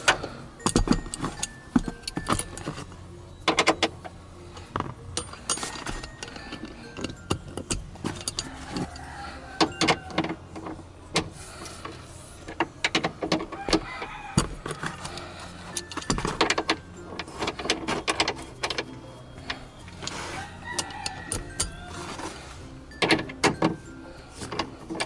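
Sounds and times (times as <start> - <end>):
socket ratchet clicking: 0.0 - 25.0
tools clinking against metal: 0.0 - 25.0.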